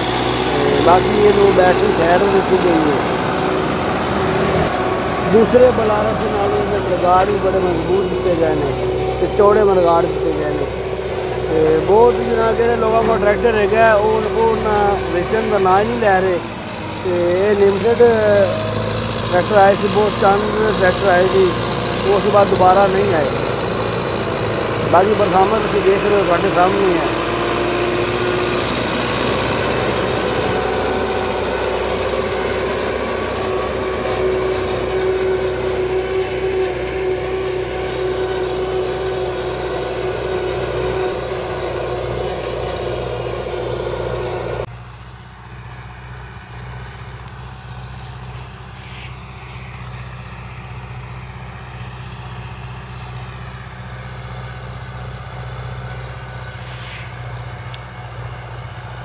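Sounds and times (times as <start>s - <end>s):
distant tractor hum: 0.0s - 59.0s
tractor diesel engine under load: 0.0s - 59.0s.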